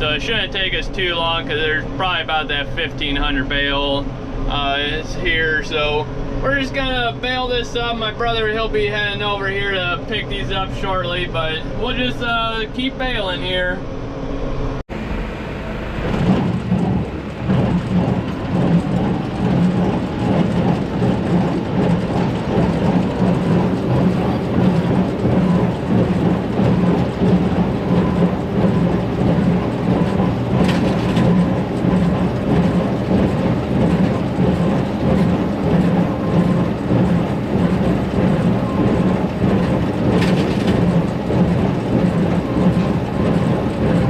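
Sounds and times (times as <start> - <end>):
tractor engine running: 0.0 - 13.6, 14.9 - 44.0.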